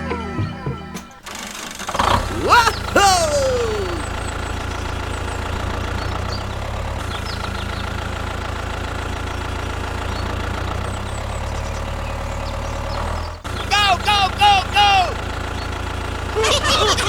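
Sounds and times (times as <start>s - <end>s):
tractor engine idling: 1.3s - 17.0s.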